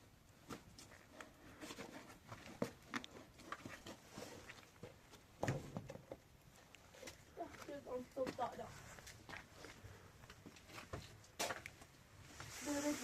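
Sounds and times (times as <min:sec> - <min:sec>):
rustling: 0:00.4 - 0:13.0.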